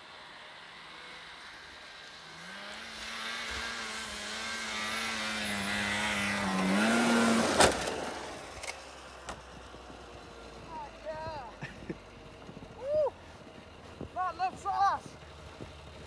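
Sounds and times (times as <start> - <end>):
snowmobile engine approaching: 0.0 - 16.0.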